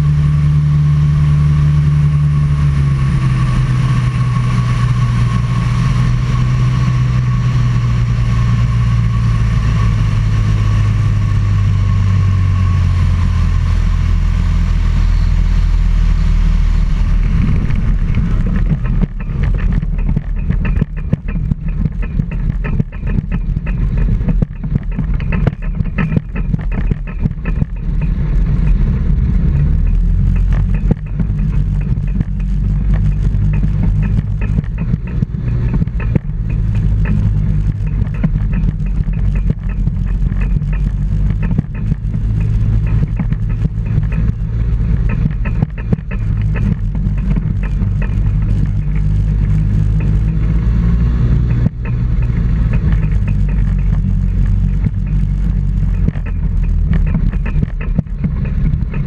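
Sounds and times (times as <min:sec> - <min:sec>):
engine and propeller running: 0:00.0 - 0:59.0.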